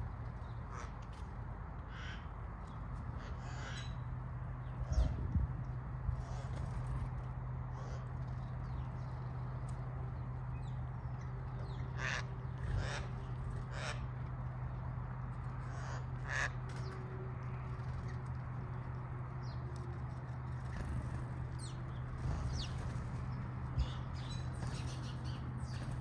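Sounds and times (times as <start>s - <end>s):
birds rasping calls: 0.0s - 26.0s
steady low hum: 0.0s - 26.0s.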